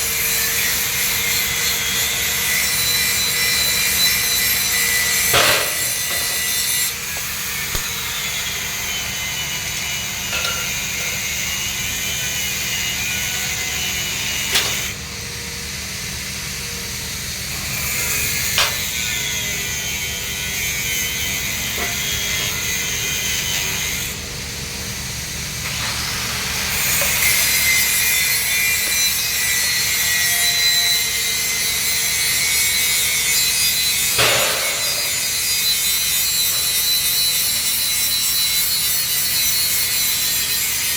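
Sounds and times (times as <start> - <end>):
arc welding hiss: 0.0 - 40.9.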